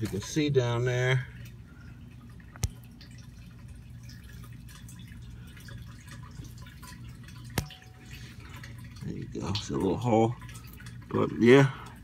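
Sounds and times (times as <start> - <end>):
water trickling and dripping in pipe: 0.0 - 12.0.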